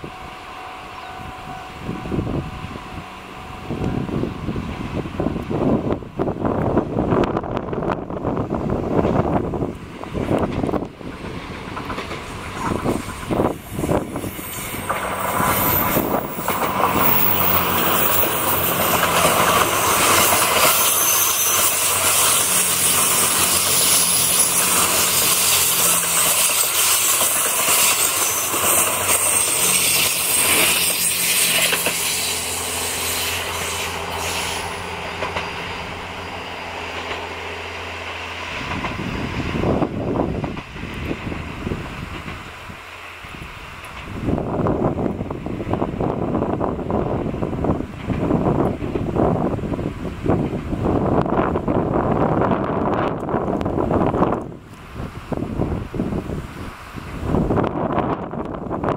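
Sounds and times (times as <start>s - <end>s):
train wheels rushing on rails: 0.0s - 58.9s
wind buffeting microphone: 1.0s - 58.9s.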